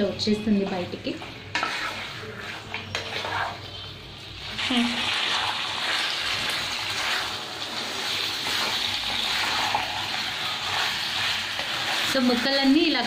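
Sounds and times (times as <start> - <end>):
spatula stirring: 0.5 - 13.0
chicken sizzling in hot oil: 1.5 - 13.0.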